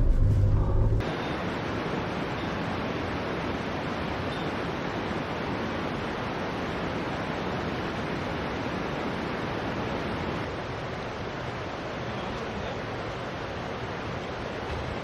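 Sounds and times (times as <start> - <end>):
stream rushing: 1.0 - 15.0.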